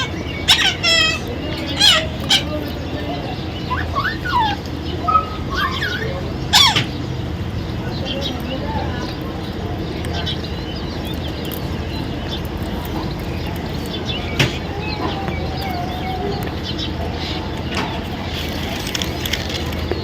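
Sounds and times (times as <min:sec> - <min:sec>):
baby parrots chirping: 0:00.0 - 0:20.0.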